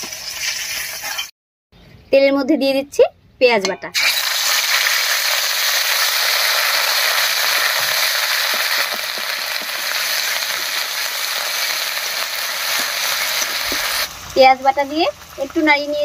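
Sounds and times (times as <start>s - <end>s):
paste sizzling in hot oil: 0.0s - 1.3s, 4.0s - 16.0s.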